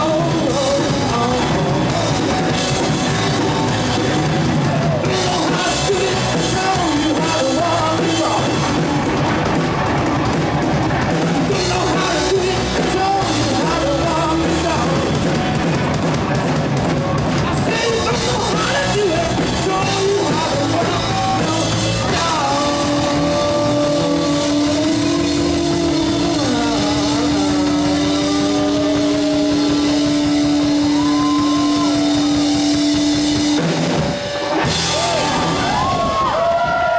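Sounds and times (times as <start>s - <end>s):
live rock band: 0.0s - 36.9s.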